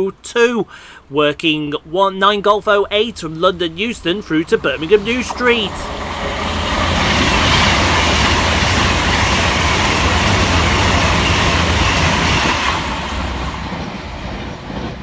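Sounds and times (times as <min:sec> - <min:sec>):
train passing fast: 0:00.2 - 0:15.0
wheels rushing on rail: 0:01.8 - 0:15.0.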